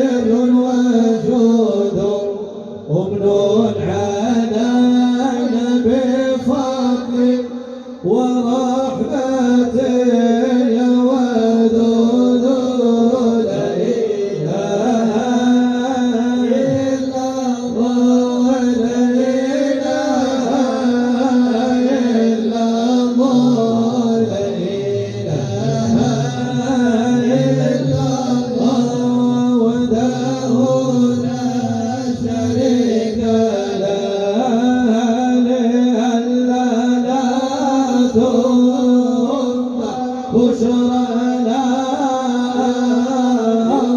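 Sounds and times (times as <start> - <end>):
person singing devotional song: 0.0 - 43.9
steady held drone: 2.0 - 43.9.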